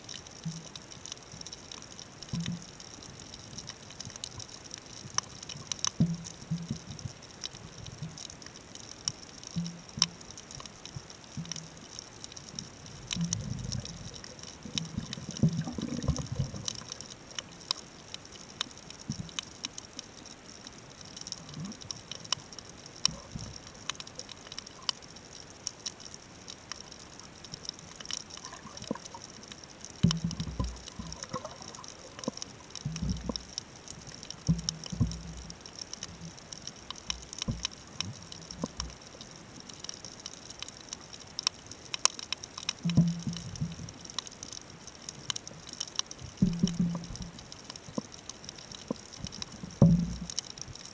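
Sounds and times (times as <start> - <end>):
sharp underwater clicks and crackles: 0.0 - 50.9
steady underwater hiss: 0.0 - 50.9.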